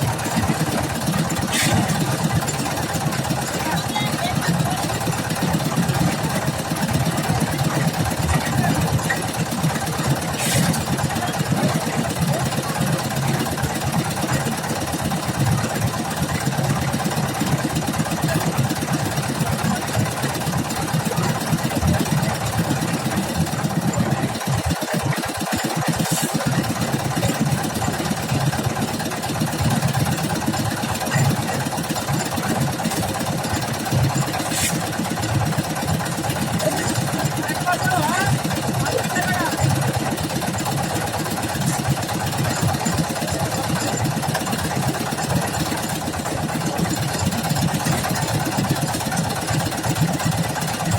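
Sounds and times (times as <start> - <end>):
construction machine engine running: 0.0 - 50.9.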